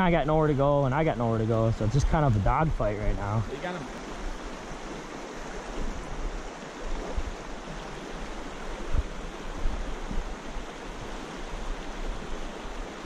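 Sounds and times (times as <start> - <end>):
creek rushing over rapids: 0.0 - 13.0.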